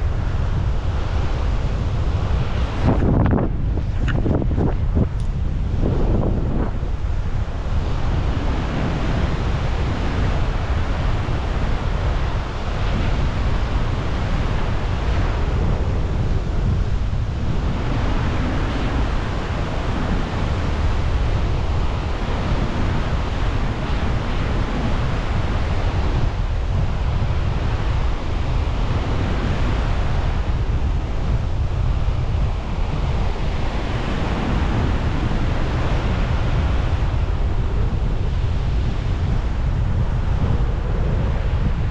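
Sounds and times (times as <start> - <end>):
strong wind buffeting microphone: 0.0 - 41.9.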